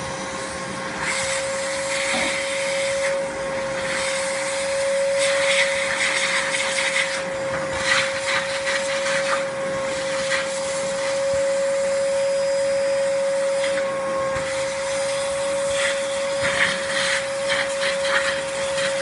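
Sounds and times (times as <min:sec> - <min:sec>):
vacuum cleaner whine: 0:00.0 - 0:19.0.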